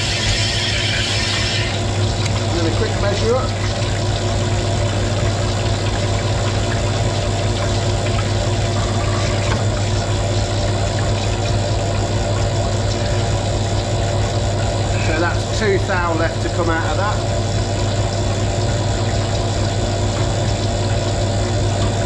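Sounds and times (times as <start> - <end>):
coolant pump running: 0.0 - 22.0
cutting fluid pouring: 0.0 - 22.0
electric motor hum: 0.0 - 22.0.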